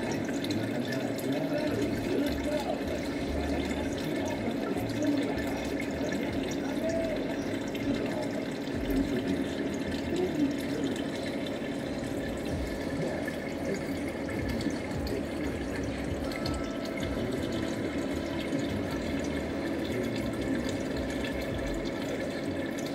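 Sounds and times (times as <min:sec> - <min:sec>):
aquarium water trickling and gurgling: 0:00.0 - 0:22.9.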